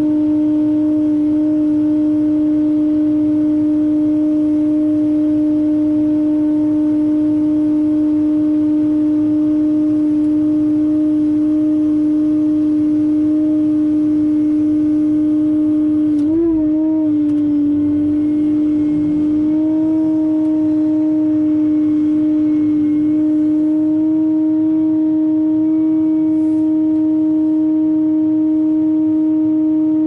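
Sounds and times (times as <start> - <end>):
heavy machinery engine droning: 0.0 - 30.0.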